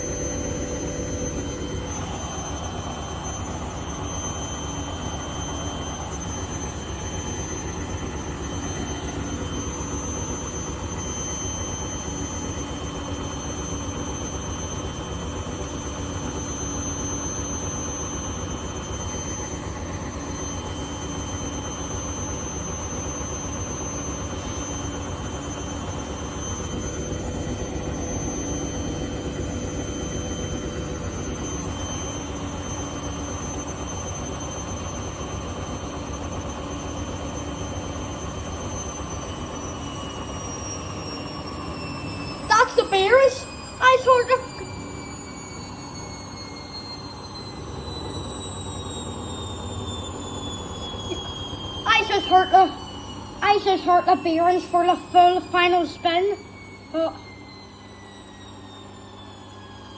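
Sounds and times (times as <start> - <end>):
high whine from drum bearings: 0.0 - 59.9
washing machine spinning: 0.0 - 59.9.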